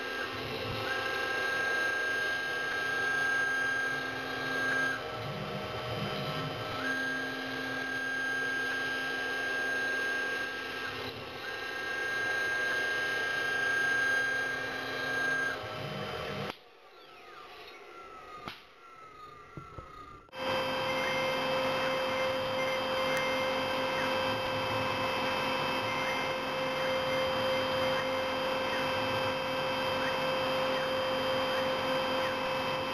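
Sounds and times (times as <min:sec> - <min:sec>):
milling machine whine: 0:00.0 - 0:32.9.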